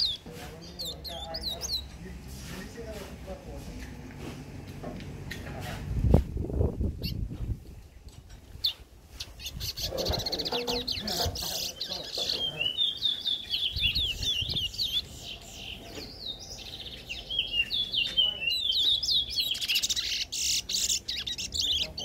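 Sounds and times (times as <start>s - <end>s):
songbird twittering song: 0.0s - 4.2s, 6.0s - 22.0s.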